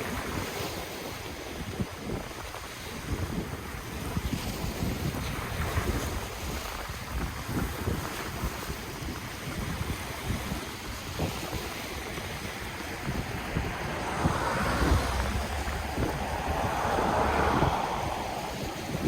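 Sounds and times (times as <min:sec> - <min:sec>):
ocean waves washing ashore: 0:00.0 - 0:19.0
wind buffeting microphone: 0:00.0 - 0:19.0.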